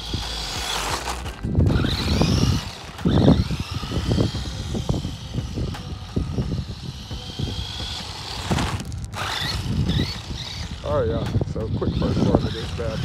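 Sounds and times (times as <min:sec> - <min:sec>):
tyres crackling over gritty asphalt: 0:00.0 - 0:06.1, 0:07.6 - 0:13.0
toy truck electric motor whining: 0:00.0 - 0:13.0.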